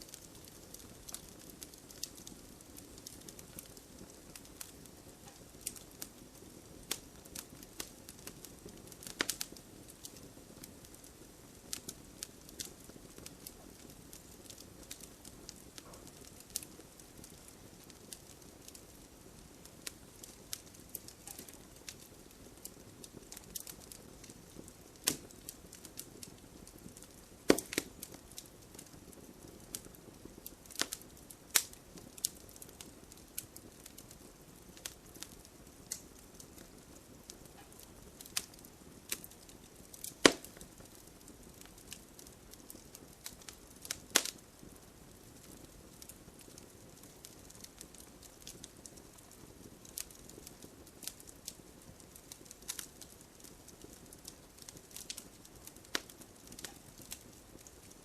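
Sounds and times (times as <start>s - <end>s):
low fire hiss: 0.0s - 58.0s
wood fire crackling and popping: 0.0s - 58.0s.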